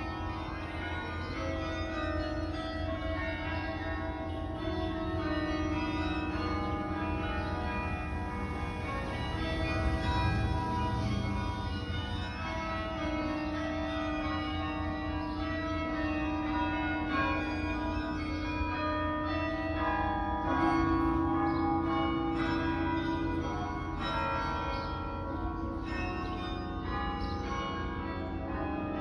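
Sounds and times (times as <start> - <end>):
carillon bells playing a melody: 0.0 - 29.0.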